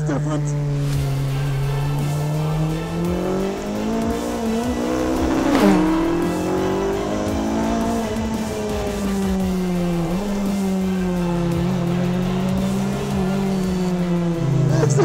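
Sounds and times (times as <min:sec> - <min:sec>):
racing engine accelerating: 0:00.0 - 0:15.0
gearshift crack: 0:00.6 - 0:15.0.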